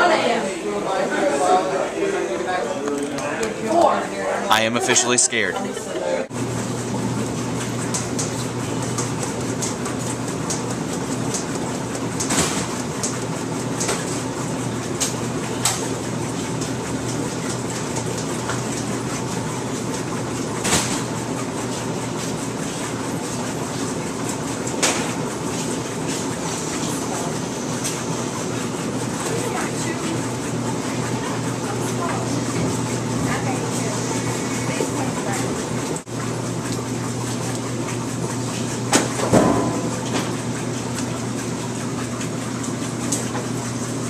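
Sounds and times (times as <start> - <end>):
laundry machines humming: 0.0 - 44.0.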